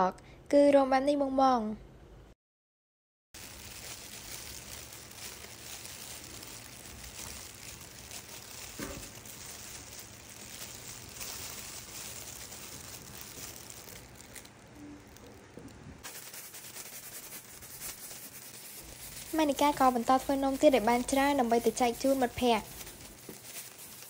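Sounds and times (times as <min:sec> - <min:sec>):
plastic gloves crinkling: 0:03.4 - 0:24.0.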